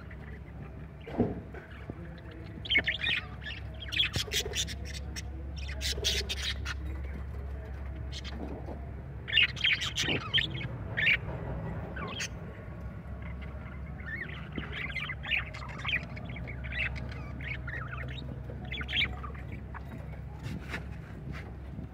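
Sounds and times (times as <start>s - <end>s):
budgerigars chirping and chattering: 0.0s - 21.9s
steady low hum: 0.0s - 21.9s.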